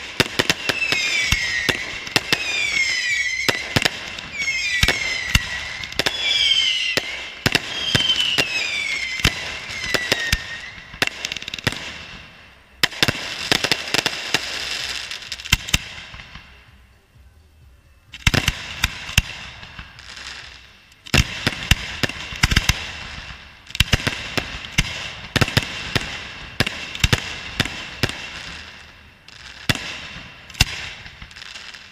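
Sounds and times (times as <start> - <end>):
fireworks bangs: 0.0 - 16.6, 18.2 - 31.9
whistling fireworks: 0.0 - 16.6, 18.1 - 31.9
crackling hiss: 0.0 - 31.9.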